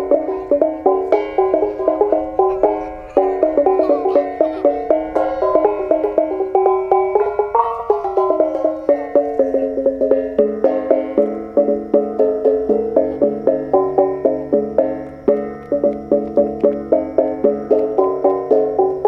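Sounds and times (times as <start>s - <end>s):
kettle gongs melody: 0.0s - 19.0s.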